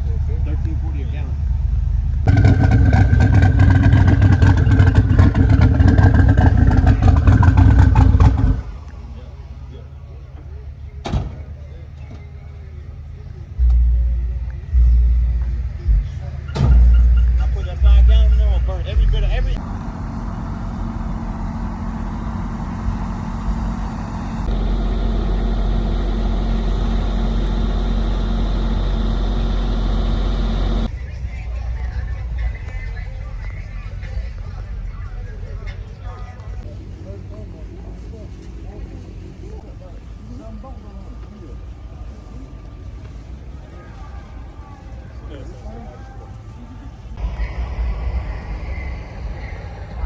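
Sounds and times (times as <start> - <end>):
loud car engine with choppy exhaust: 0.0 - 50.0.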